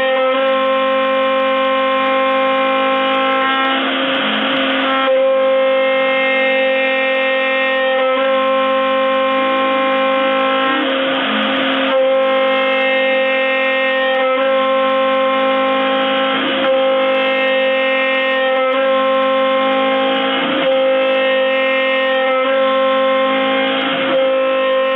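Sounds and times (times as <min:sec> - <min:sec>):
router spindle cutting wood: 0:00.0 - 0:24.9.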